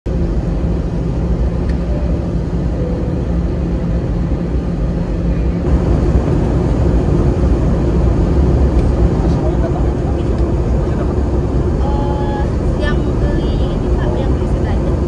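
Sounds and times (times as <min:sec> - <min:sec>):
jet engine rumble and rushing air: 0:00.1 - 0:15.0.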